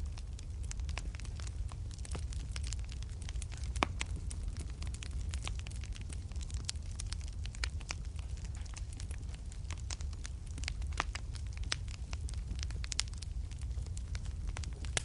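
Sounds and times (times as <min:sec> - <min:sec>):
fire burning with low rumble: 0:00.0 - 0:15.0
fire crackling and popping: 0:00.0 - 0:15.0.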